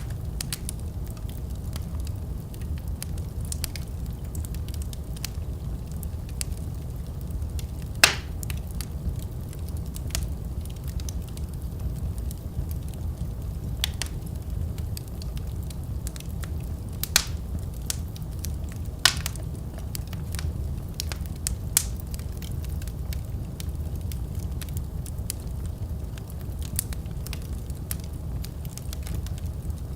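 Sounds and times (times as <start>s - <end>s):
steady low rumble: 0.0s - 29.9s
wood fire crackling and popping: 0.0s - 29.9s.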